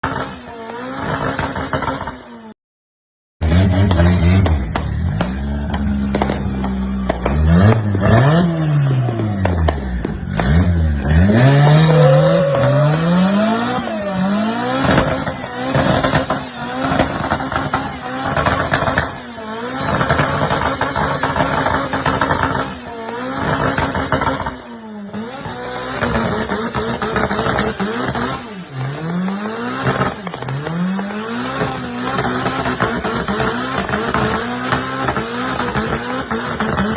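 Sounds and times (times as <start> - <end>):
car engine idling and revving: 0.0 - 2.6, 3.4 - 36.9.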